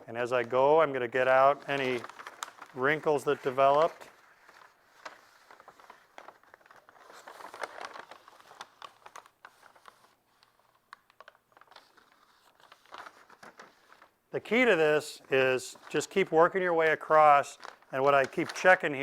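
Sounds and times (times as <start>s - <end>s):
paper rustling and crinkling: 0.4s - 14.6s, 15.2s - 19.0s.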